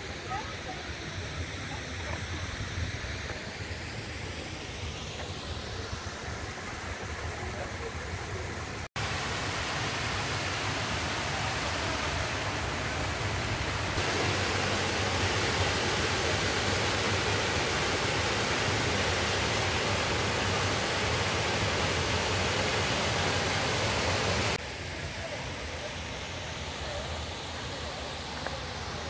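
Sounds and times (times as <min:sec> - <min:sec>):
waterfall rushing into pond: 0:00.0 - 0:29.0.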